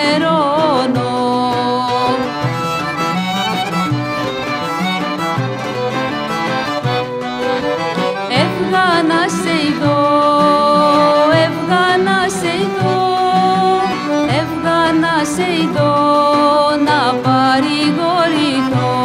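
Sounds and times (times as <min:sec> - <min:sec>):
accordion: 0:00.0 - 0:19.0
violin: 0:00.0 - 0:19.0
woman singing folk song: 0:00.0 - 0:19.0.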